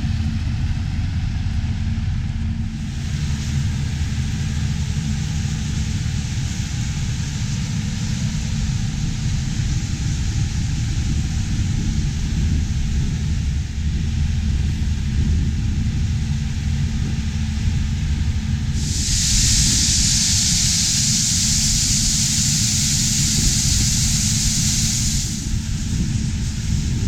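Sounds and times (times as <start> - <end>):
farm machinery engine rumble: 0.0 - 27.0
loud steady hiss: 2.6 - 27.0.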